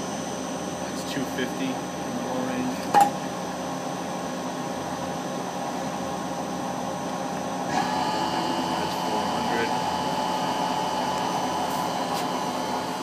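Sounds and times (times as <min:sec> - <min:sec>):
lathe running with high whine: 0:00.0 - 0:13.0.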